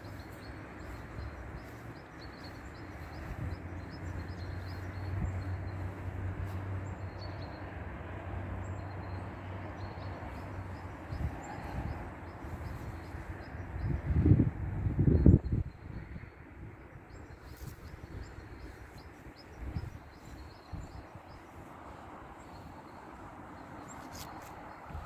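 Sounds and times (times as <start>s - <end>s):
small birds chirping: 0.0s - 7.8s, 8.6s - 25.0s
distant traffic rumble: 0.0s - 25.0s.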